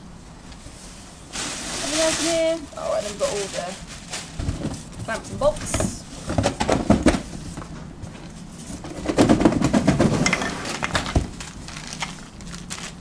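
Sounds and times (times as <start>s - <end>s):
rustling packaging: 1.3s - 13.0s.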